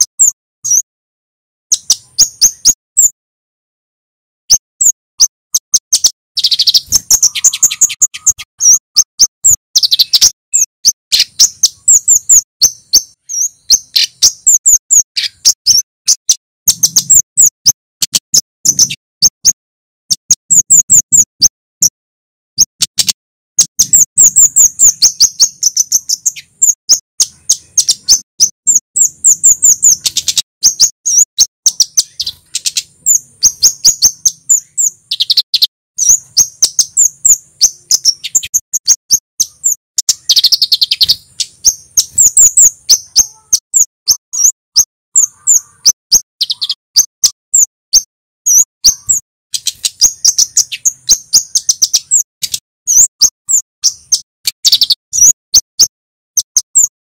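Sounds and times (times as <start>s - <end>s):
bird singing sharp high notes: 0.0s - 0.9s, 1.7s - 3.2s, 4.5s - 22.0s, 22.6s - 57.0s.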